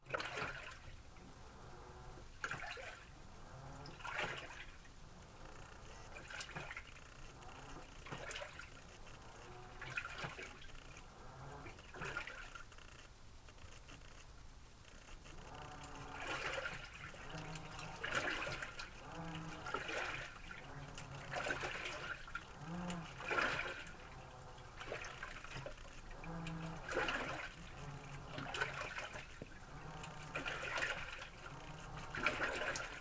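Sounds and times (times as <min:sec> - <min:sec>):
water swishing in washing machine: 0:00.0 - 0:13.1, 0:14.9 - 0:33.0
low motor hum: 0:00.0 - 0:33.0.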